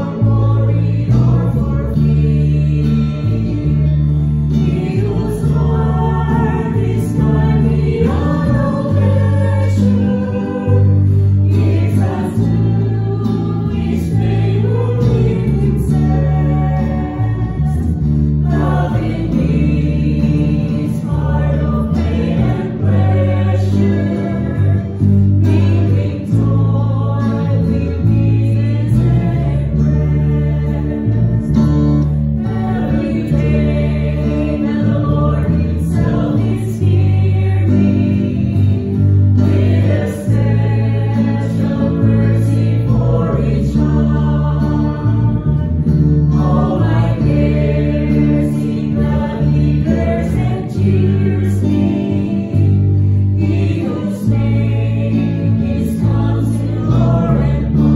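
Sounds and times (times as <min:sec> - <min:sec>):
bass line: 0:00.0 - 0:57.9
choir singing worship song: 0:00.0 - 0:57.9
electric guitar: 0:00.0 - 0:57.9.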